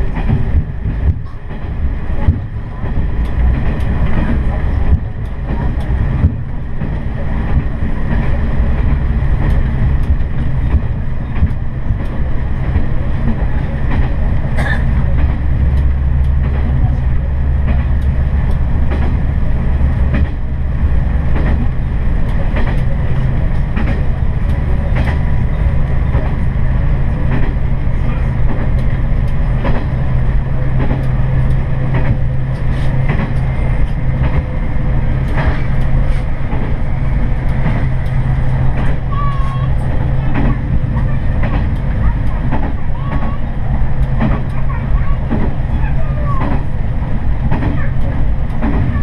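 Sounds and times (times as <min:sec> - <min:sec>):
diesel railcar engine drone: 0:00.0 - 0:49.0.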